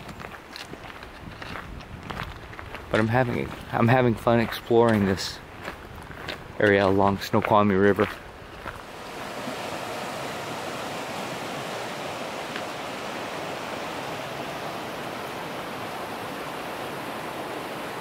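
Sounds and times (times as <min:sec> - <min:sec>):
river water rushing over cobbles: 0:02.6 - 0:18.0.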